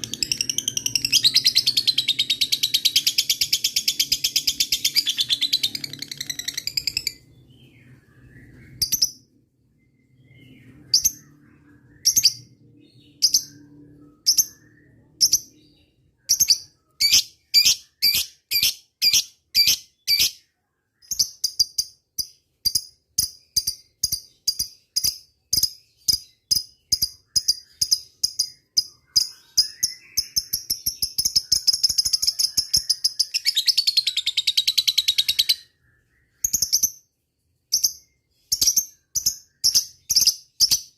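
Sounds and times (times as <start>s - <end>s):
lovebird chirping and trilling: 0.0s - 40.9s.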